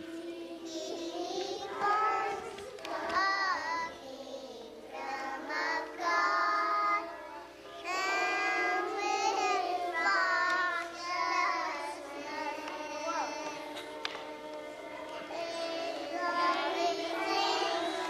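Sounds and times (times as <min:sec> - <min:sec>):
children singing together: 0:00.0 - 0:18.0.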